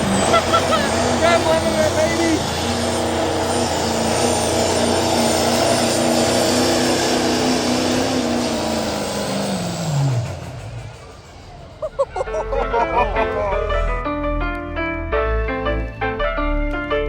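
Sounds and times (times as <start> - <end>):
diesel truck engine revving: 0.0 - 17.0.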